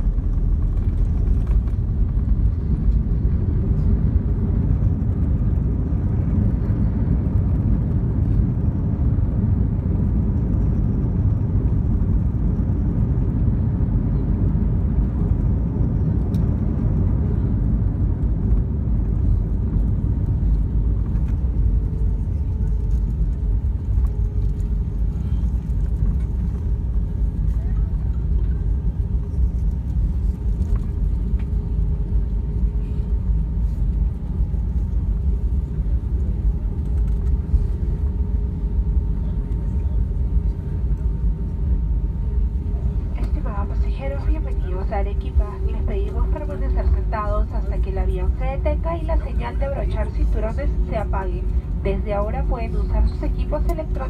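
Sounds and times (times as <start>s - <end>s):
aircraft engines rumbling in cabin: 0.0s - 54.0s.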